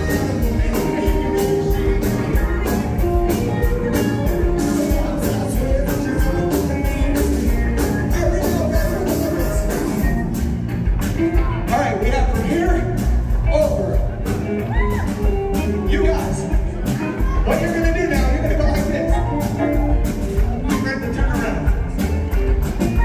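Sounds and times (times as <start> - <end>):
man singing: 0.0 - 10.4, 11.2 - 14.4, 15.6 - 22.1
drum beat: 0.0 - 23.0
live rock band playing: 0.0 - 23.0.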